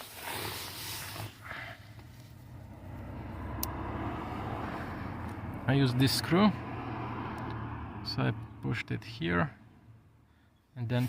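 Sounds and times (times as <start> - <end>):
low vehicle engine hum: 0.5 - 10.7.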